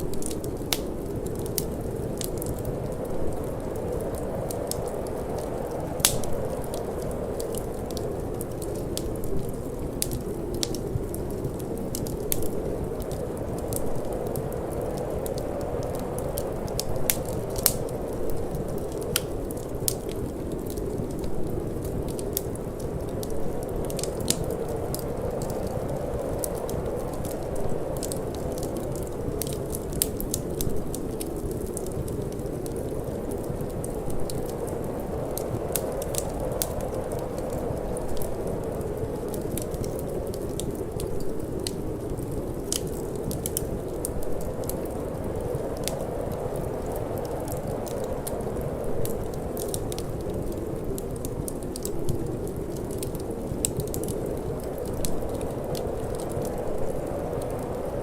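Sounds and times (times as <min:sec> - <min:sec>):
low rush of wind: 0:00.0 - 0:58.0
wood fire crackling and popping: 0:00.0 - 0:58.0.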